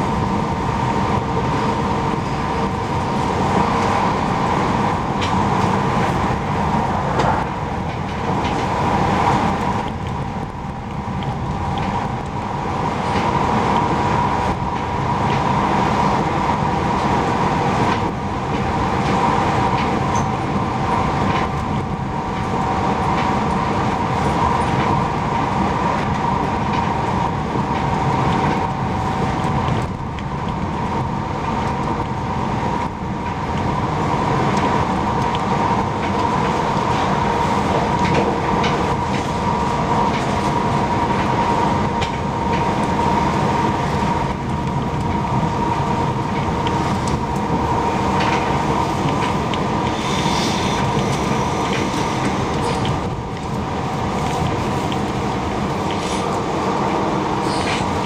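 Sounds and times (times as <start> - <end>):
train rumble and rushing: 0.0 - 58.0.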